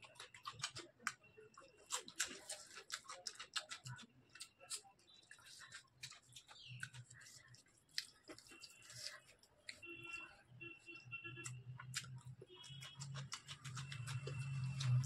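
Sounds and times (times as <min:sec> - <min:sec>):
wet chewing and lip-smacking: 0:00.0 - 0:09.9, 0:11.4 - 0:15.0.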